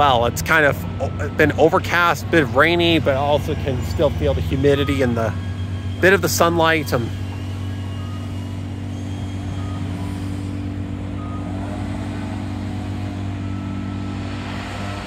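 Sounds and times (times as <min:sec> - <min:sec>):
cars driving through: 0:00.0 - 0:15.0
low motor hum: 0:00.0 - 0:15.0.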